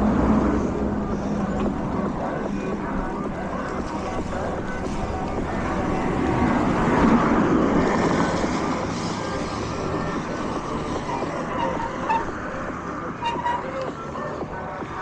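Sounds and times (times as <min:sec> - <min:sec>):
traffic on wet roads: 0:00.0 - 0:15.0.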